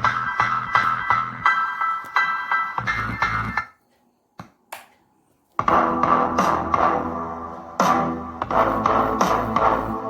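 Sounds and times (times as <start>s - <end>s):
electronic music with beat: 0.0s - 3.9s, 5.5s - 10.0s.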